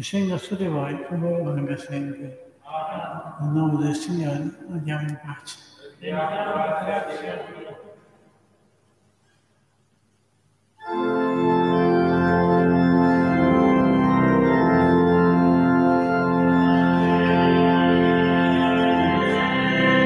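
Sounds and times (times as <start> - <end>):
organ playing sustained chords: 0.0 - 8.2, 10.8 - 20.0.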